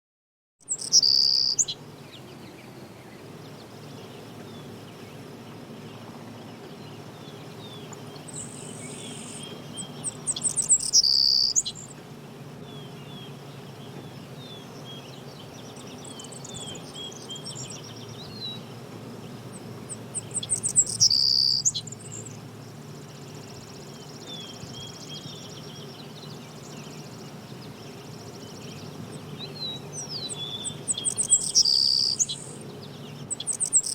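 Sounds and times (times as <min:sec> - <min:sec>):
songbirds chirping and singing: 0:00.6 - 0:33.9
steady low background noise: 0:00.6 - 0:33.9.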